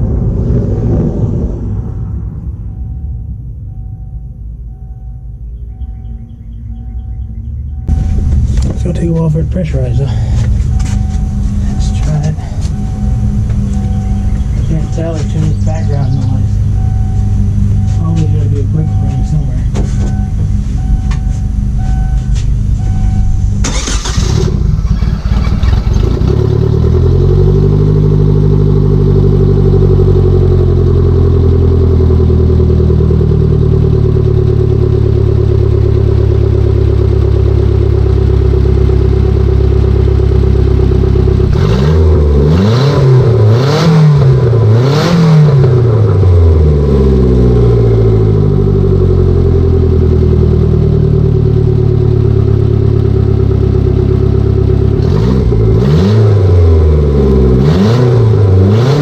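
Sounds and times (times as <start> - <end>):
engine revving: 0.0 - 4.9, 5.7 - 59.0
car engine starting and idling: 0.0 - 59.0.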